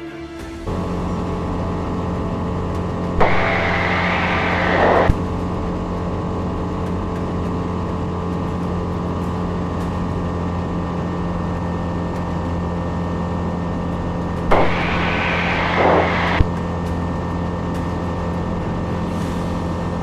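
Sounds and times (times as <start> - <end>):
aircraft engine and propeller drone: 0.4 - 19.9.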